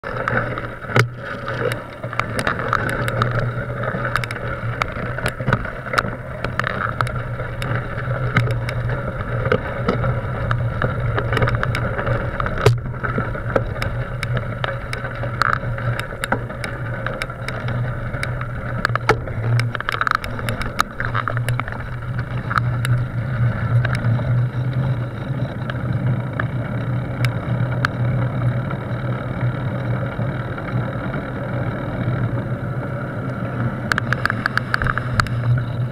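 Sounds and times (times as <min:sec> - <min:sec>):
bicycle rolling hum: 0:00.0 - 0:35.9
bike clicks and rattles: 0:00.0 - 0:35.9.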